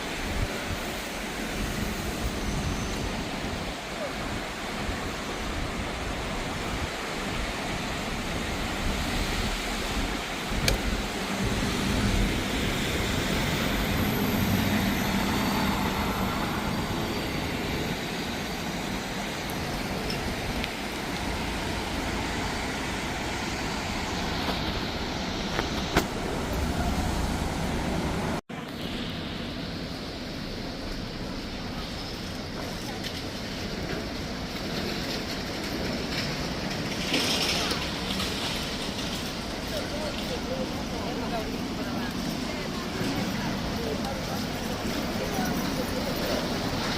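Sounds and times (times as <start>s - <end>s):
rain hissing: 0.0s - 46.9s
vehicle passing on wet street: 0.0s - 46.9s.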